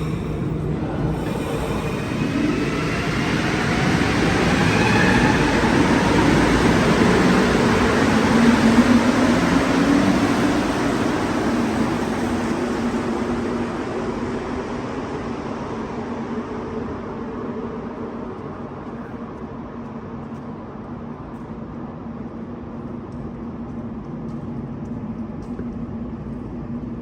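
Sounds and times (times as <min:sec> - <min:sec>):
metro train humming: 0:00.0 - 0:27.0.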